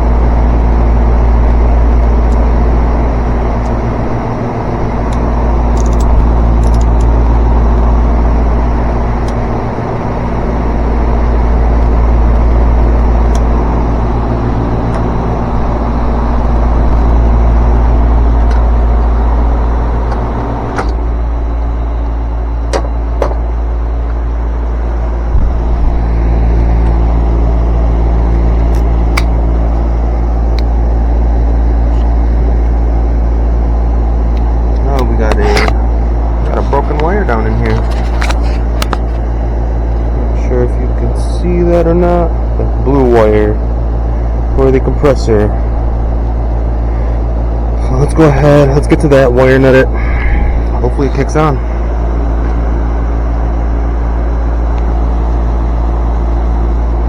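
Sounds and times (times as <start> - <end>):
low rumble: 0.0 - 40.4, 43.4 - 57.0
electrical hum of hvac equipment: 0.0 - 57.0.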